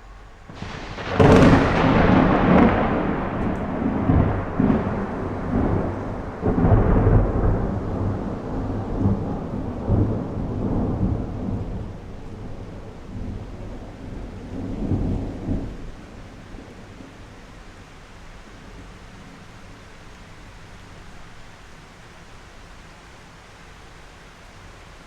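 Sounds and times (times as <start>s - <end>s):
thunder rumbling: 0.0s - 21.3s
steady rain: 0.0s - 25.0s.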